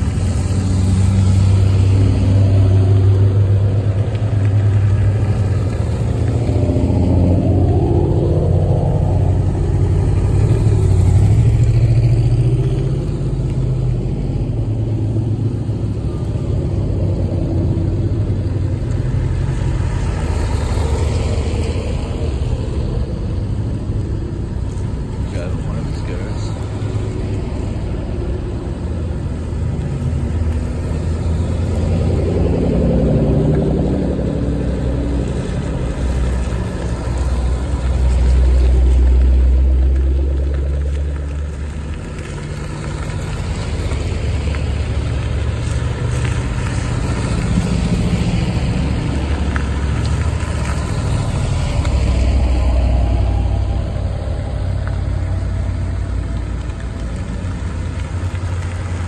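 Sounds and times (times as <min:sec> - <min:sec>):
exhausts rumbling: 0:00.0 - 0:59.0
sports cars driving past: 0:00.0 - 0:59.0.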